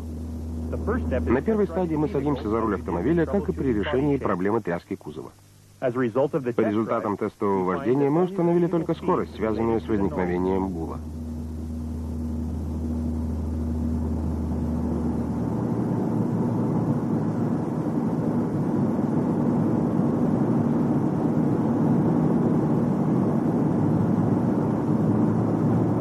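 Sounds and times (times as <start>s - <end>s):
booming drone: 0.0s - 3.9s, 8.6s - 26.0s
car interior hum: 0.0s - 4.3s, 7.8s - 26.0s.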